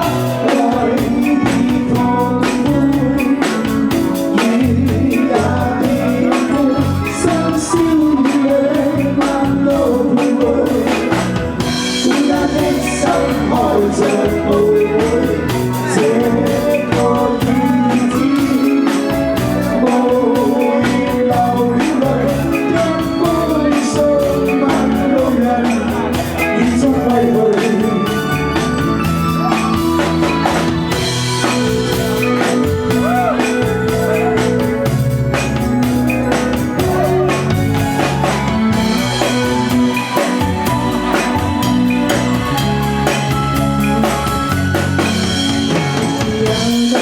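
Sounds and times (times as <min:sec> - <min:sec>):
live band playing pop song: 0:00.0 - 0:47.0.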